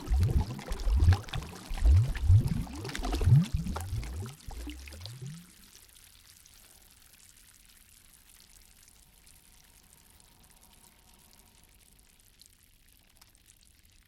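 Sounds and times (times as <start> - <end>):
gently moving water hiss: 0.0 - 7.6, 8.7 - 12.4
tiny water drips: 0.0 - 14.0.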